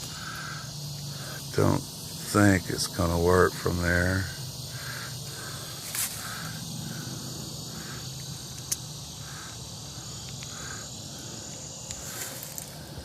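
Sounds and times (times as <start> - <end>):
crickets chirping: 0.0 - 13.0
high-pitched insect hiss: 0.0 - 13.0.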